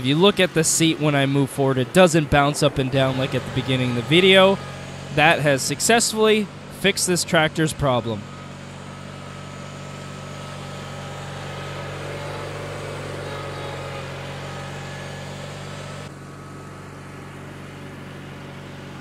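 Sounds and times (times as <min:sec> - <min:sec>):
garden tractor engine running: 0:00.0 - 0:19.0.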